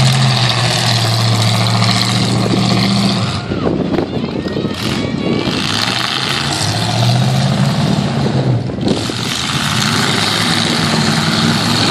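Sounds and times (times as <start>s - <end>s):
truck engines revving: 0.0s - 11.9s.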